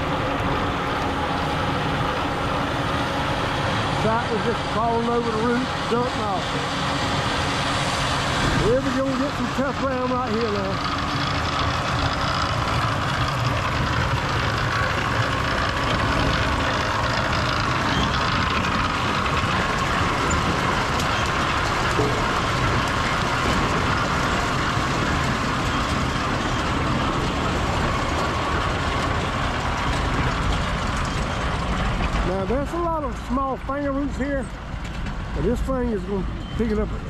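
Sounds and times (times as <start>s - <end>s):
tractor running under load: 0.0s - 37.0s.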